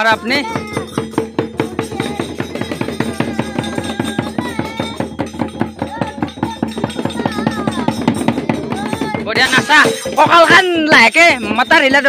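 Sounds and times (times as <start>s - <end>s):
fast drumming: 0.0s - 12.0s.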